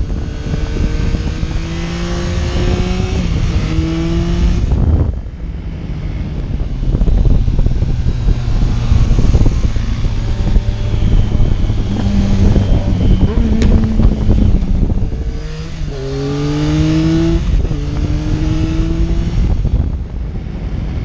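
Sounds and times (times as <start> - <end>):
low rumble and noise: 0.0 - 21.0
motorcycle engine revving: 0.0 - 21.0.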